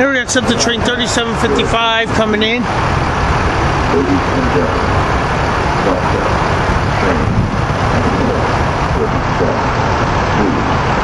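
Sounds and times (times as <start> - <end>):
electric train motors rumbling: 0.0 - 11.0.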